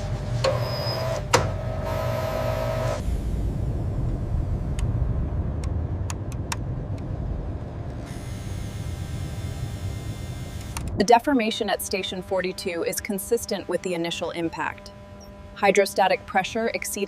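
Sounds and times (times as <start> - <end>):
humming tone: 0.0 - 5.8, 7.9 - 17.0
low mechanical rumble: 0.0 - 17.0.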